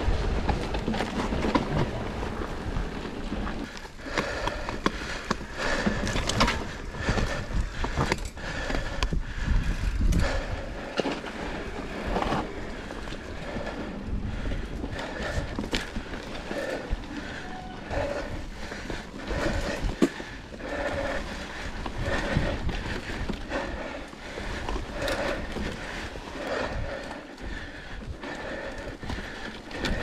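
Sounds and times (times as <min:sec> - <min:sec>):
bike rattling over bumps: 0:00.0 - 0:30.0
tyres rumbling on rough ground: 0:00.0 - 0:30.0.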